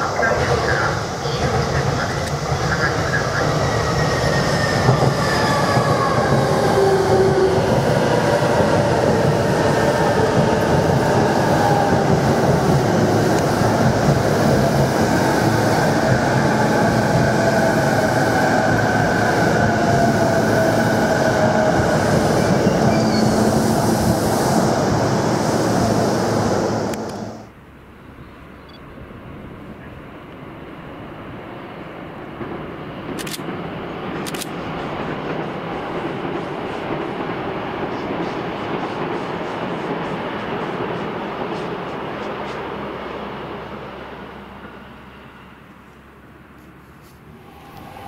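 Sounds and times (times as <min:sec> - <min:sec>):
electric train passing: 0:00.0 - 0:46.6, 0:47.2 - 0:48.0.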